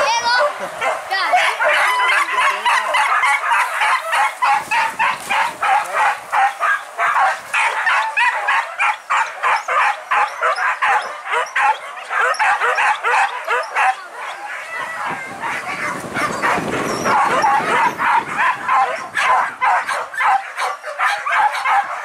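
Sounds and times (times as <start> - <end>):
dogs barking and yelping: 0.0 - 22.0.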